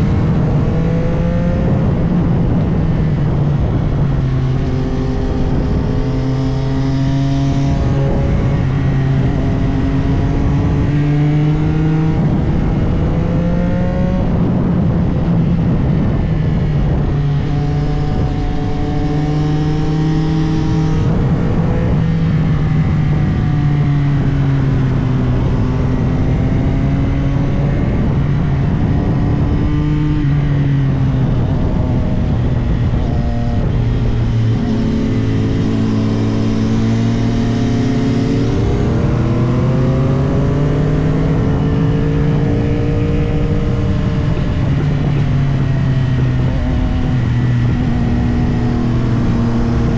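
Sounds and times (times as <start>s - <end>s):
motorcycle engine accelerating: 0.0s - 49.9s
wind rushing: 0.0s - 49.9s.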